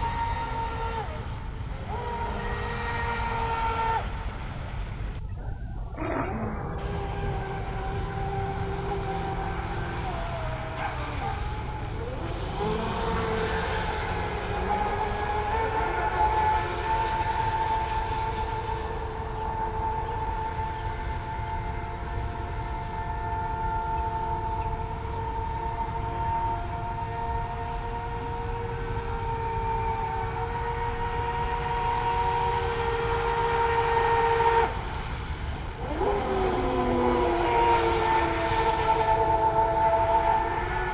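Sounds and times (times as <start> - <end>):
electric motors whining: 0.0 - 40.9
low rumble: 0.0 - 40.9
low rushing water noise: 0.0 - 40.9.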